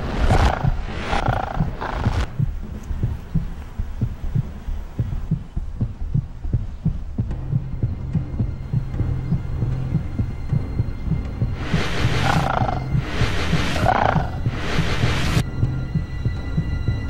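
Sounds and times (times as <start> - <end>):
low throbbing pulse: 0.0 - 17.0
steady low hum: 0.0 - 17.0.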